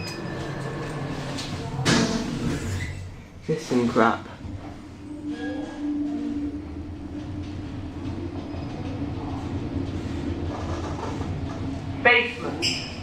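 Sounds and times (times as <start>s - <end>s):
lift hum and rumble: 0.0s - 13.0s.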